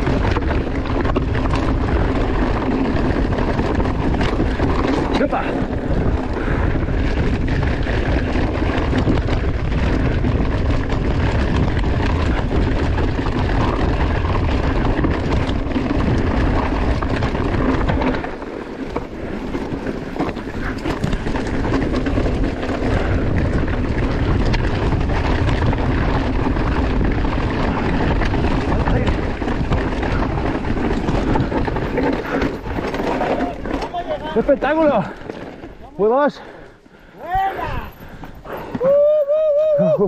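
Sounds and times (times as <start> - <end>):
rush of bike riding on trail: 0.0 - 40.0
wind buffeting microphone: 0.0 - 40.0.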